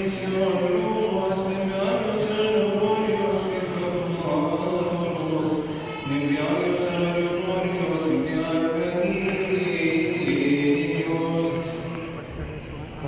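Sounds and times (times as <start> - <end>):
man chanting a hymn: 0.0 - 13.0.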